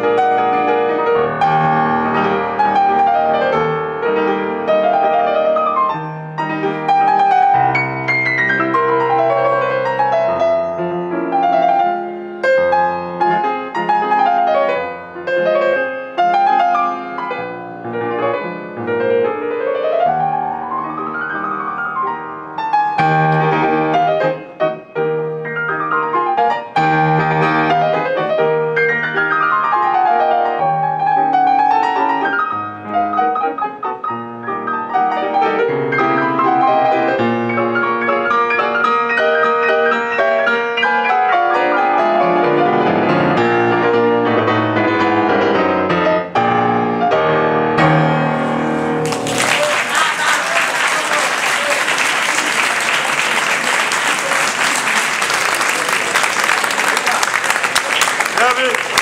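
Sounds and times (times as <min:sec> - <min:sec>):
fast classical piano piece: 0:00.0 - 0:59.0.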